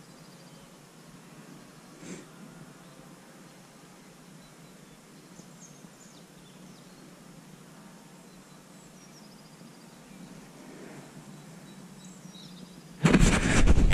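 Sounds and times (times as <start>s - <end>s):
faint bird chirps: 0.0s - 13.0s
low outdoor background noise: 0.0s - 13.4s.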